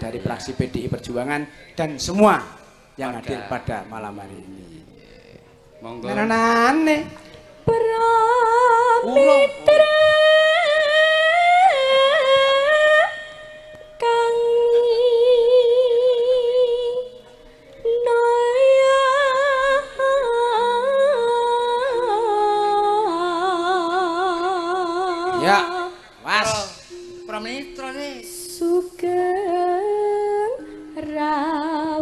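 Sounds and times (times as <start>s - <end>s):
woman singing with vibrato: 6.1s - 32.0s.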